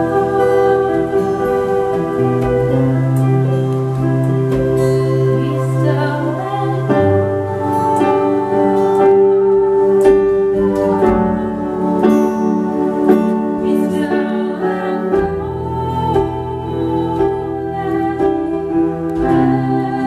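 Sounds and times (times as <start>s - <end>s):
strummed acoustic guitar: 0.0s - 20.0s
woman singing: 0.0s - 20.0s.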